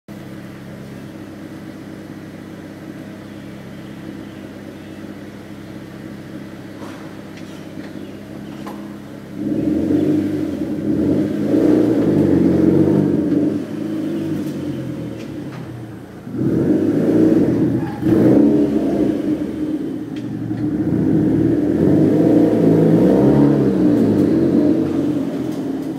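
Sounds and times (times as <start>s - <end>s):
car engine idling and pulling away: 0.1s - 25.9s.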